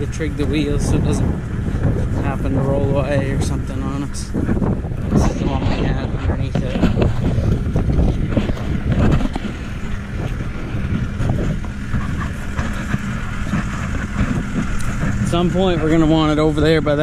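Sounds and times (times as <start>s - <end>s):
vehicle engine running: 0.0s - 17.0s
wind buffeting microphone: 0.0s - 17.0s.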